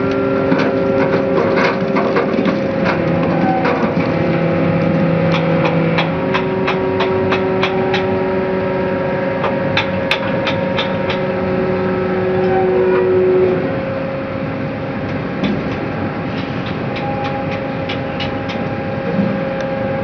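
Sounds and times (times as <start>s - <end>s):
hydraulic platform machine hum: 0.0s - 20.0s.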